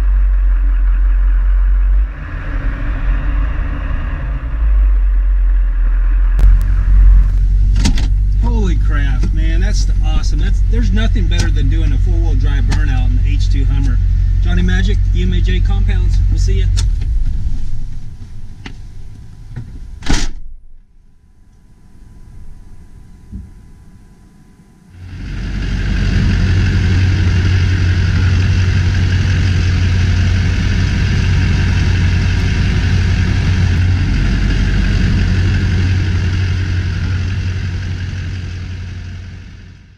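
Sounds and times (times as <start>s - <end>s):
diesel engine rumbling: 0.0s - 20.2s, 24.8s - 39.9s.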